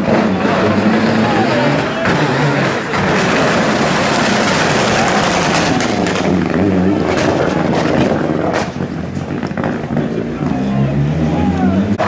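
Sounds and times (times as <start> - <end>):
exhaust cracks: 0.0 - 10.8
rally car engine at high revs: 0.0 - 12.0.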